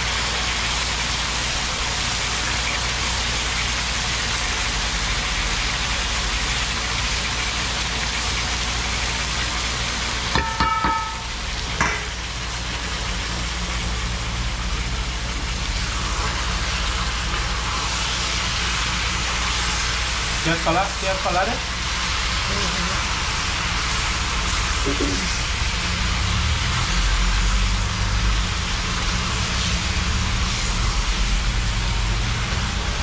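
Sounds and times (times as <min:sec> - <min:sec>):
chicken sizzling in a pot: 0:00.0 - 0:33.0.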